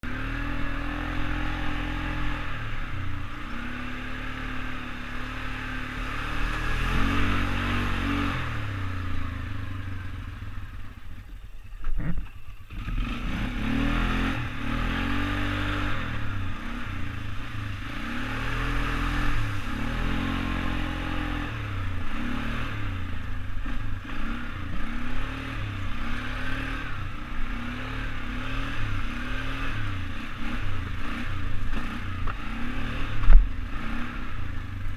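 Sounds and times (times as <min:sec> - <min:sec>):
atv engine revving: 0:00.0 - 0:34.9.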